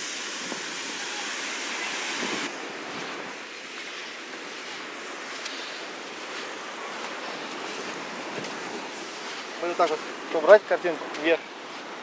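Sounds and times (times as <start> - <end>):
surf breaking on shore: 0.0 - 12.0.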